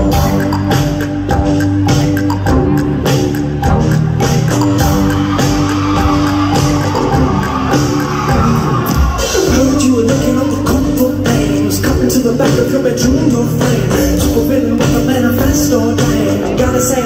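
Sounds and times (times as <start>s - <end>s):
live band playing instrumental: 0.0s - 17.0s
steady drum beat: 0.0s - 17.0s.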